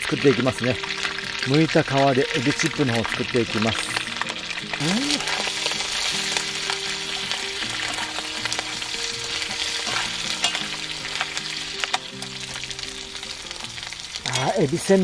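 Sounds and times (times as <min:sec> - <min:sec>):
oil sizzling and popping: 0:00.0 - 0:15.0
tongs stirring in pan: 0:02.4 - 0:14.9.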